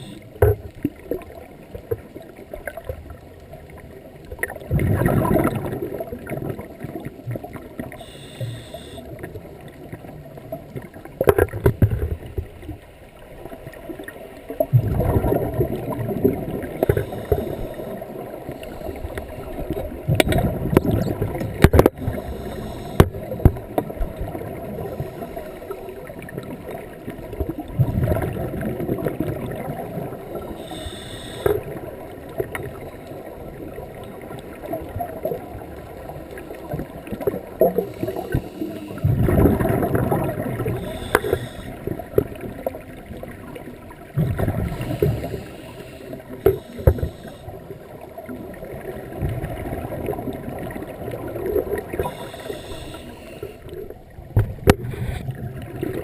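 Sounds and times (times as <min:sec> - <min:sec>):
constant underwater crackle: 0:00.0 - 0:56.0
underwater exhaled bubbles: 0:00.0 - 0:56.0.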